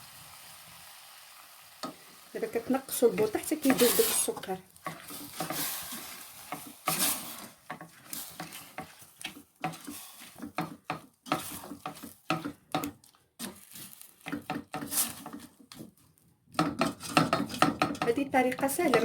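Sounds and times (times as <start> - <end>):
spoon stirring and scraping pot: 1.8 - 19.0.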